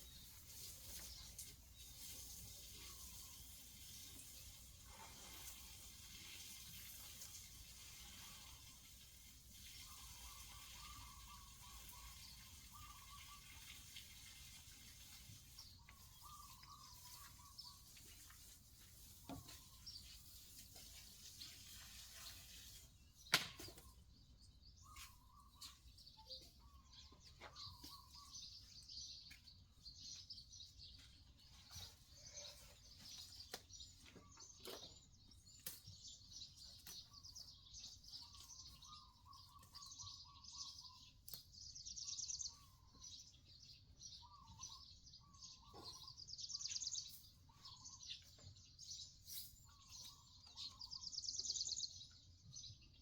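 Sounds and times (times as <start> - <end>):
faint birdsong chirps: 0.0 - 53.0.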